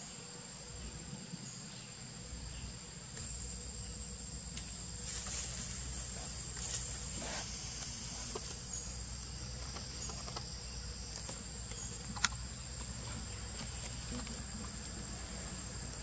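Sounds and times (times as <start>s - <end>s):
insects droning: 0.0s - 16.0s
low hum: 0.6s - 16.0s.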